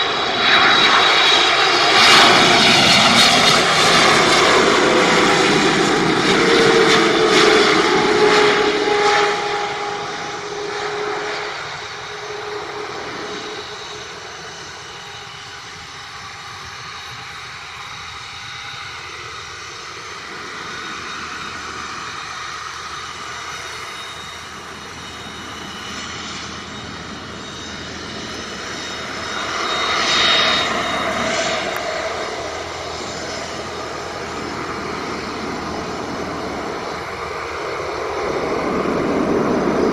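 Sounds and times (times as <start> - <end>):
jet engines passing overhead: 0.0 - 39.9.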